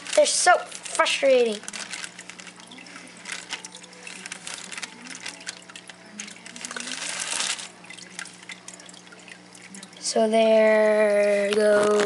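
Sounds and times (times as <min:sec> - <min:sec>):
aquarium water sloshing and splashing: 0:00.0 - 0:12.0.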